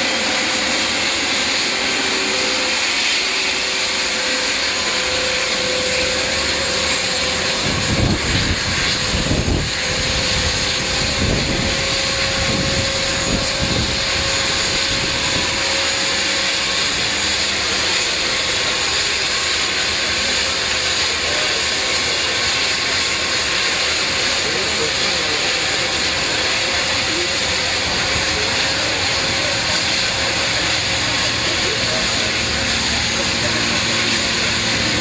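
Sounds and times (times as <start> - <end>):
propeller engine drone: 0.0 - 35.0.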